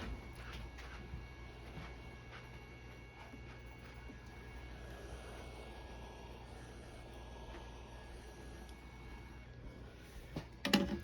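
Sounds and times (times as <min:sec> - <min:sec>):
machine hum with high whine: 0:00.0 - 0:11.0.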